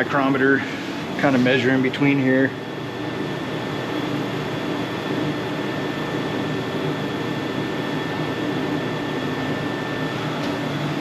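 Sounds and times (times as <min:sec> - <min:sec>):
mechanical whirring hum: 0:00.0 - 0:11.0.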